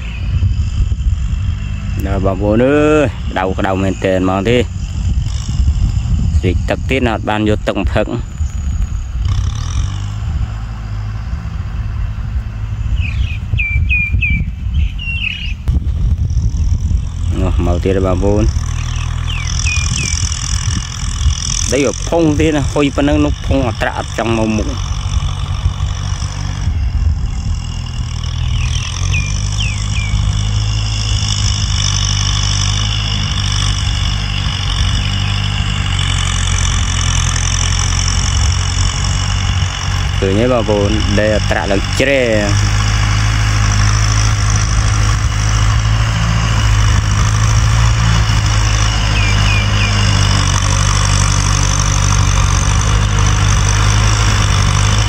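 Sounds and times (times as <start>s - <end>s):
bird chirping: 0.0s - 10.2s, 11.2s - 55.0s
distant tractor engine rumble: 0.0s - 55.0s.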